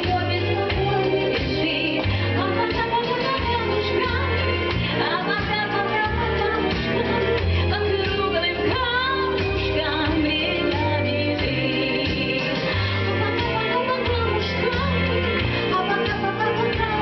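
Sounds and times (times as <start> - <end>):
instrumental accompaniment: 0.0 - 17.0
steady bass line: 0.0 - 17.0.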